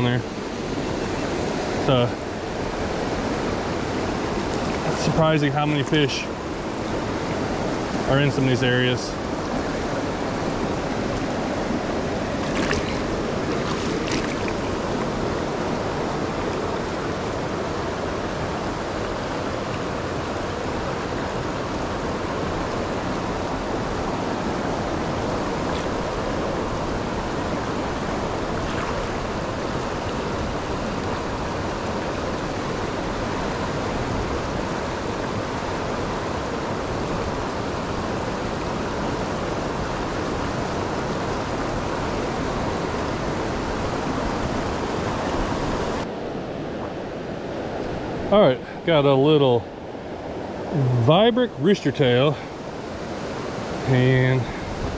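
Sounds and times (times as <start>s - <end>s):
flowing creek water: 0.0s - 54.9s.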